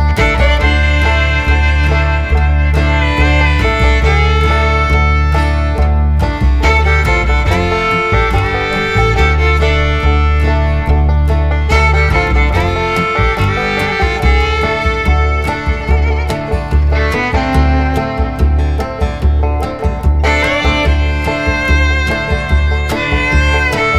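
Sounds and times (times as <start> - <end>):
upbeat bluegrass tune with fiddle: 0.0 - 23.9.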